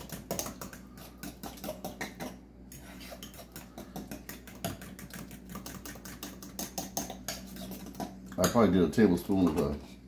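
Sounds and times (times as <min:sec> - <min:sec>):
utensil scraping against bowl: 0:00.0 - 0:10.0.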